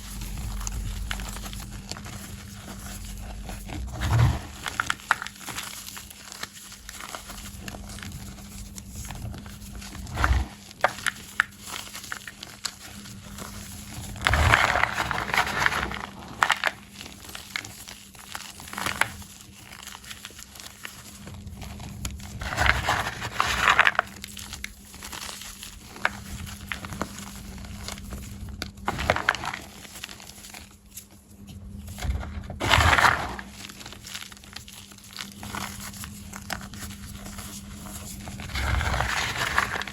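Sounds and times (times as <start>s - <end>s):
chalk blocks crunching: 0.0s - 21.2s, 22.3s - 30.6s, 32.1s - 39.9s.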